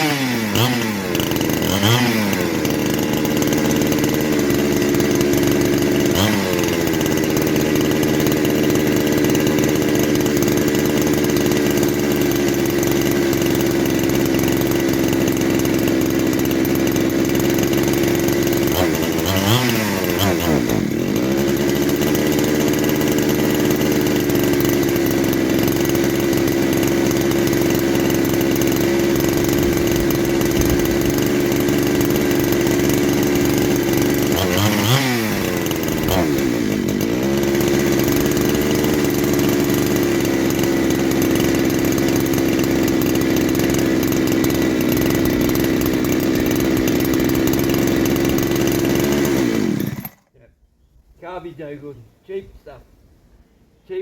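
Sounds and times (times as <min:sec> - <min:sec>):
chainsaw running: 0:00.0 - 0:50.3.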